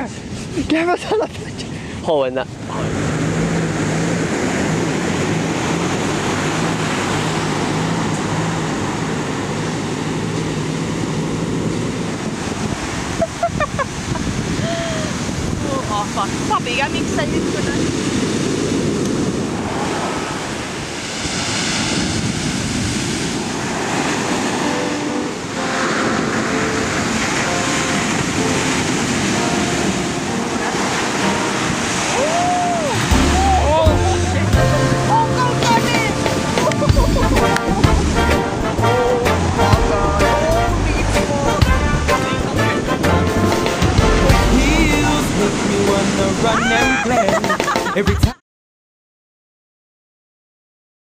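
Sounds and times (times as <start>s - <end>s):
wind noise on microphone: 0.0s - 47.6s
ocean waves breaking: 0.0s - 48.4s.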